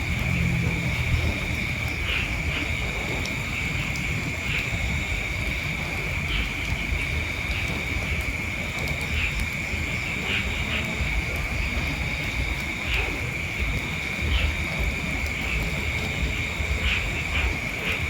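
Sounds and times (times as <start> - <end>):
low rumble: 0.0 - 17.9
high-pitched insect chorus: 0.0 - 18.0.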